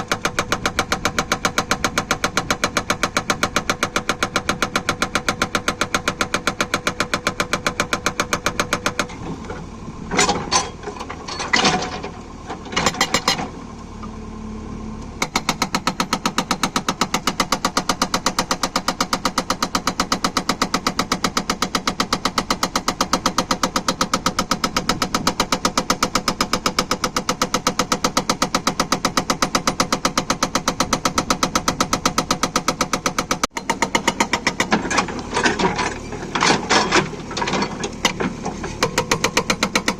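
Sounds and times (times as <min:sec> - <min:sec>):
engine running: 0:00.0 - 0:39.9
hydraulic breaker hammering: 0:00.1 - 0:09.3, 0:10.1 - 0:13.6, 0:15.2 - 0:39.9.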